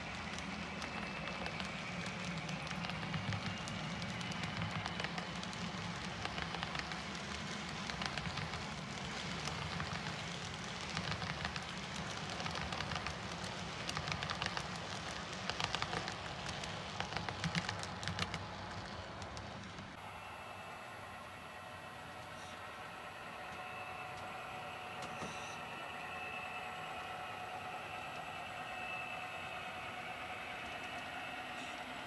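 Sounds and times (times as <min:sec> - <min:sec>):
model train cars rolling: 0:00.0 - 0:32.0.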